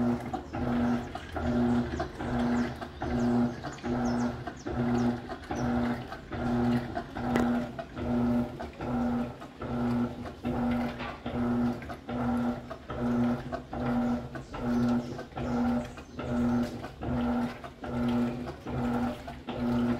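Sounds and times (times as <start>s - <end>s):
washing machine motor humming: 0.0s - 19.9s
water and laundry churning: 0.0s - 19.9s.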